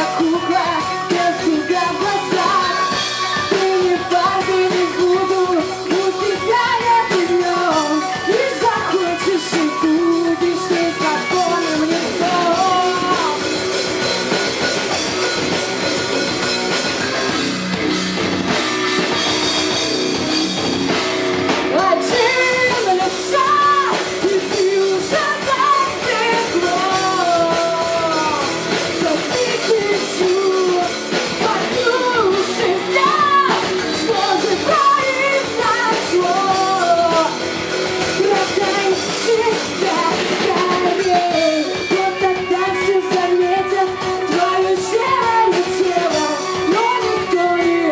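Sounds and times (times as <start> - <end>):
person singing lead vocal: 0.0 - 14.1, 21.6 - 47.9
drum kit: 0.0 - 47.9
guitars: 0.0 - 47.9.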